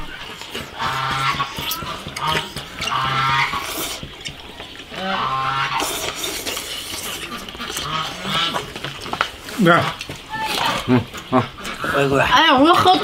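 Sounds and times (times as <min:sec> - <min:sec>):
people slurping soup: 0:00.0 - 0:13.0.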